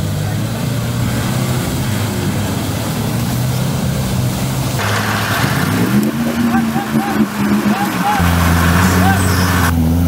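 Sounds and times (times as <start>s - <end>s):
water splashing and rushing: 0.0s - 9.7s
truck engine running under load: 0.0s - 10.0s.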